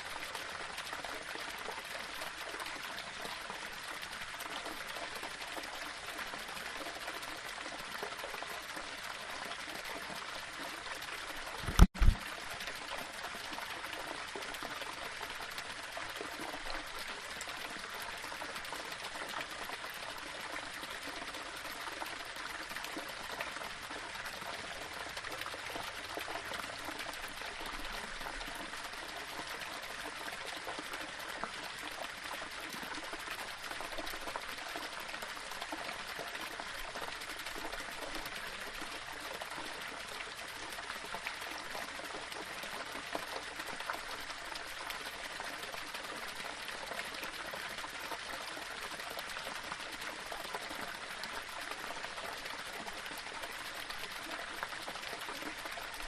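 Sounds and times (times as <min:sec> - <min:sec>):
small waterfall flowing over stones: 0:00.0 - 0:56.0.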